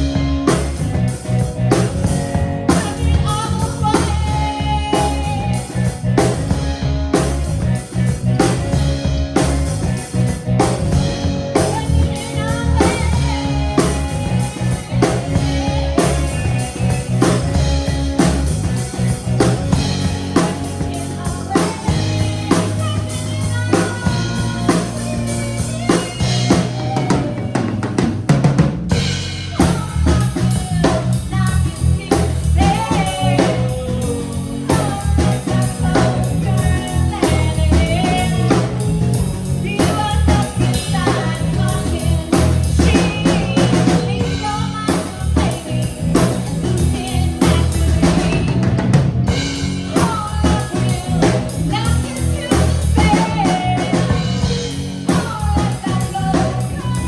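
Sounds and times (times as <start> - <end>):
drum kit beat: 0.0 - 57.0
person singing: 2.6 - 6.5, 11.5 - 28.2, 29.1 - 57.0.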